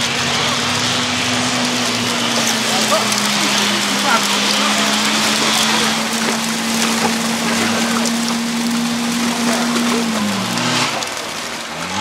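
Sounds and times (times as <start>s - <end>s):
buggy engine running: 0.0s - 12.0s.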